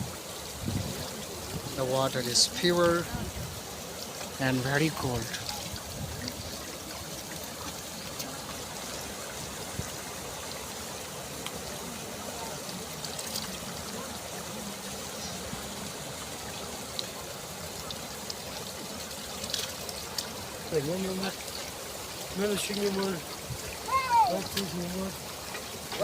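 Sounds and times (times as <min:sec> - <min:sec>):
light water splashes: 0:00.0 - 0:26.0
stream water trickling: 0:00.0 - 0:26.0.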